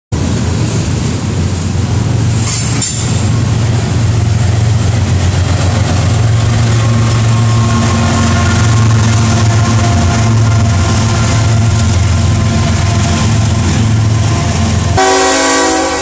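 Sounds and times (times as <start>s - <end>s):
vehicle rumble and drone: 0.2s - 15.0s.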